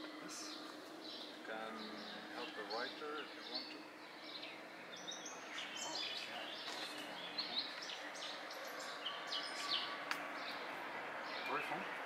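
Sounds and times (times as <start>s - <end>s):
faint outdoor background noise: 0.0s - 12.0s
songbirds chirping: 0.0s - 12.0s.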